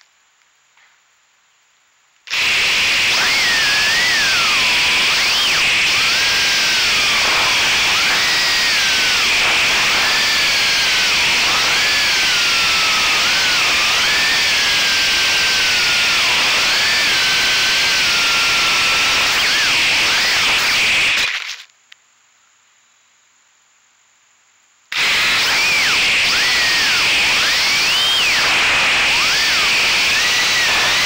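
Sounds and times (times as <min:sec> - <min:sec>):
steady hiss: 0:00.0 - 0:31.0
quadcopter motors whining: 0:02.3 - 0:21.7, 0:24.9 - 0:31.0.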